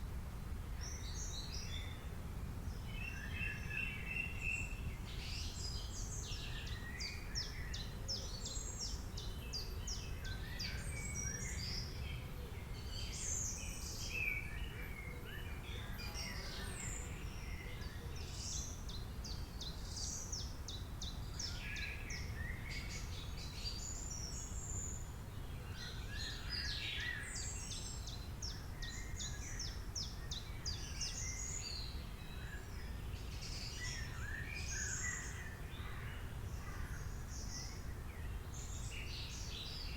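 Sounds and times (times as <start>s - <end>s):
songbirds singing and chirping: 0.6s - 39.9s.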